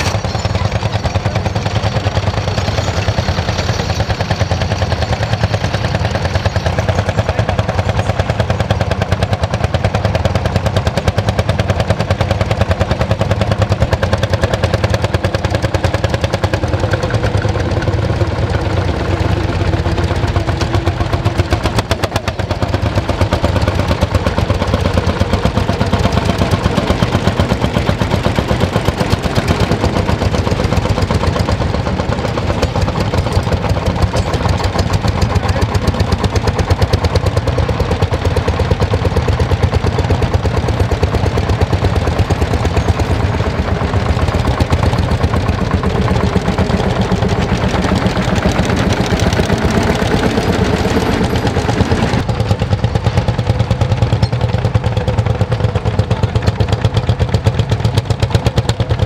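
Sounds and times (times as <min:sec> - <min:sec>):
tractor engines popping exhaust: 0:00.0 - 0:59.0.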